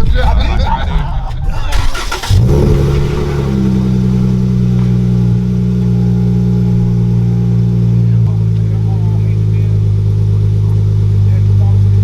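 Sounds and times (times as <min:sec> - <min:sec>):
car engine starting and idling: 0:01.6 - 0:12.0.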